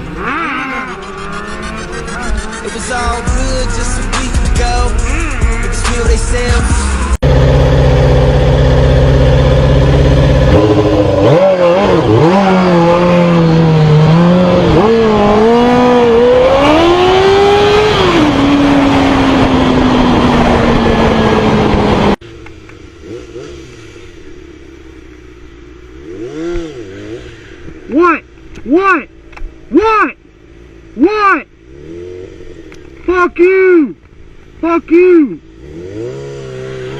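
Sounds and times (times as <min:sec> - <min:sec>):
motorcycle engines revving: 0:00.0 - 0:36.9.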